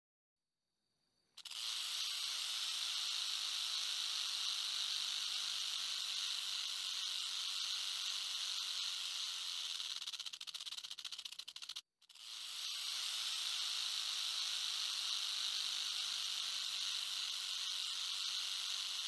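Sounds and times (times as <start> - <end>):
high-pitched hissing buzz: 1.4 - 10.4, 12.1 - 19.0.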